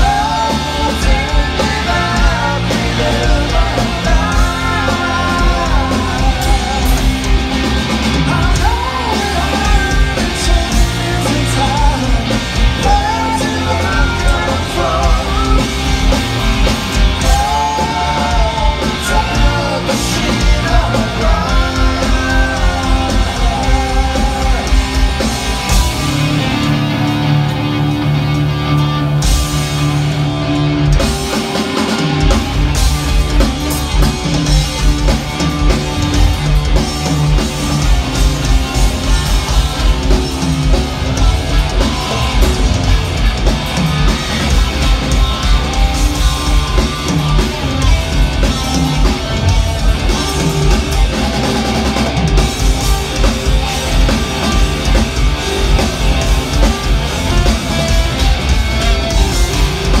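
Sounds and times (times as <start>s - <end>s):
drum kit beat: 0.0s - 28.0s, 29.2s - 60.0s
bass guitar: 0.0s - 60.0s
electric guitar: 0.0s - 60.0s.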